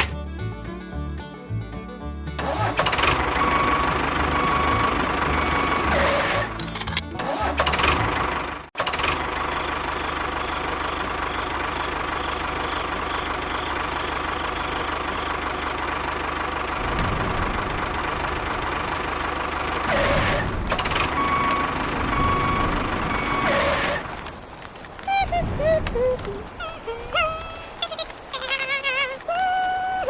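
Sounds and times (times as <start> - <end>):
engine running: 0.0 - 25.1.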